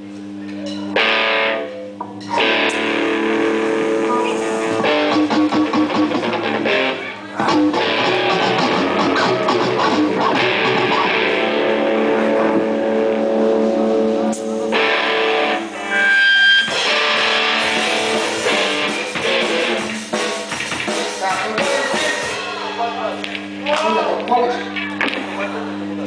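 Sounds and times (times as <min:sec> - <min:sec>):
live band music led by guitar: 0:00.9 - 0:23.4.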